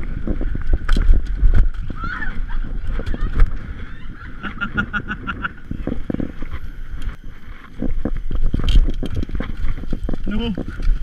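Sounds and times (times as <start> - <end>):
bike rattling over ground: 0.0 - 11.0
wind buffeting microphone: 0.0 - 11.0.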